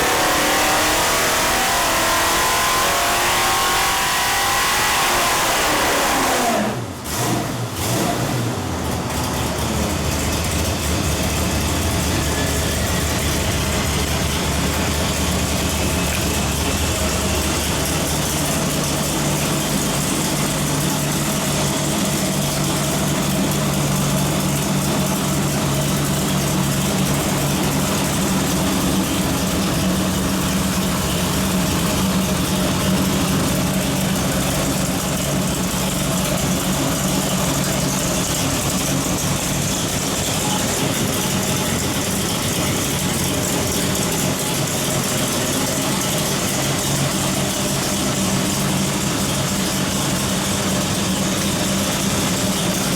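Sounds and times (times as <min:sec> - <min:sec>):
engine revs dropping to idle: 0:00.0 - 0:52.9.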